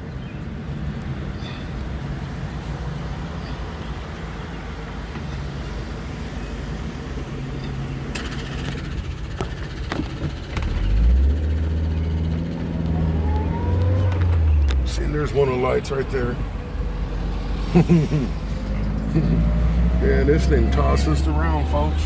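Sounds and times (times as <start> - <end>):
car engine idling and speeding up: 0.0 - 22.0.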